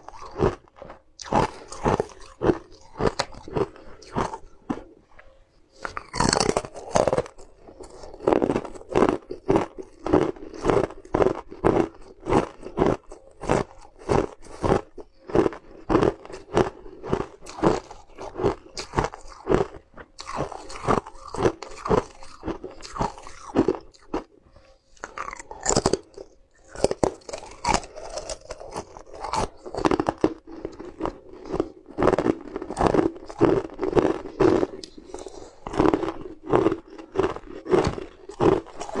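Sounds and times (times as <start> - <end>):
person crunching ice: 0.0 - 5.0, 5.8 - 24.3, 25.0 - 39.0.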